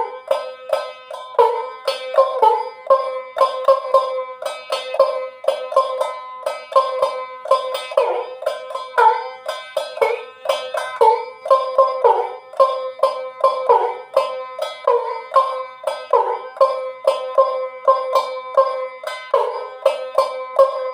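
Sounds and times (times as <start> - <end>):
one-string instrument twanging: 0.0 - 20.9.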